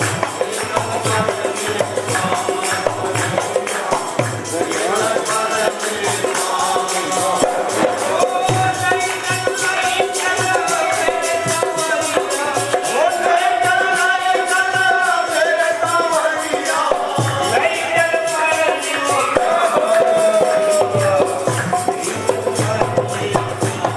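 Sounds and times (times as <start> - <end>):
drum beats: 0.0 - 23.9
fast jingling rhythm: 0.0 - 23.9.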